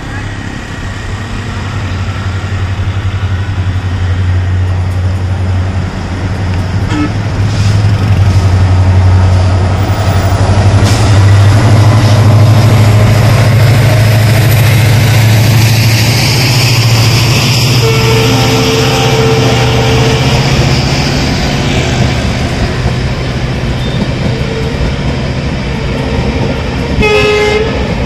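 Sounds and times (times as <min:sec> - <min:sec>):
coaches rumbling over rails: 0:00.0 - 0:28.0
diesel locomotive engine drone: 0:00.0 - 0:28.0.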